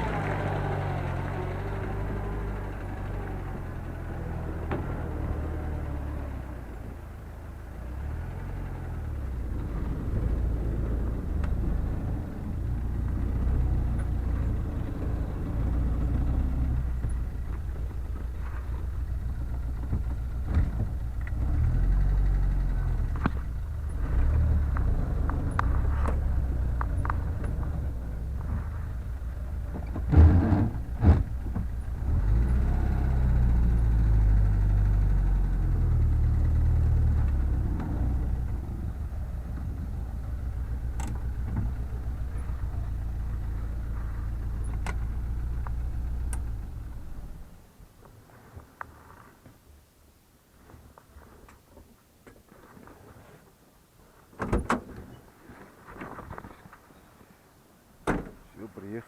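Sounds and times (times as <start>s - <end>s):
vehicle engine running: 0.0s - 47.8s.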